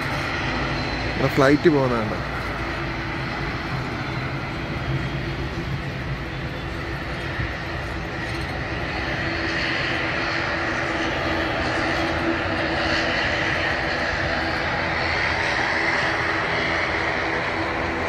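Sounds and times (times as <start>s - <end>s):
propeller plane engines droning: 0.0s - 18.0s.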